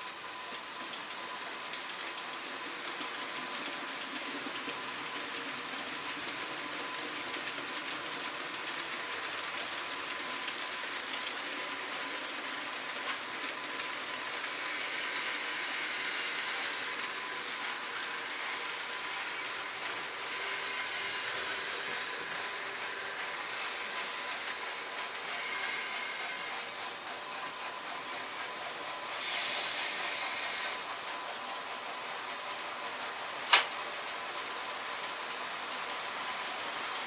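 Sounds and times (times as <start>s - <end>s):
model trains whirring on track: 0.0s - 37.0s
thin high whine: 0.0s - 37.0s.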